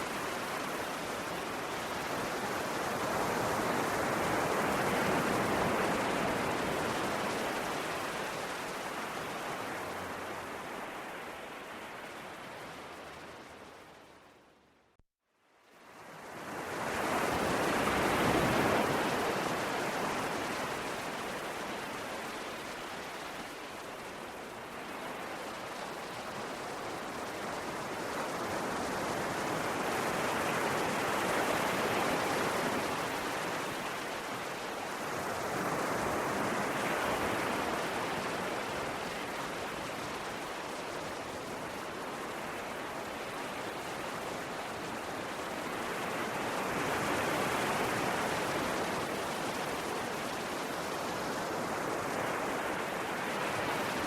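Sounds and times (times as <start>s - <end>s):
sea waves washing on shore: 0.0s - 14.2s, 15.8s - 54.0s.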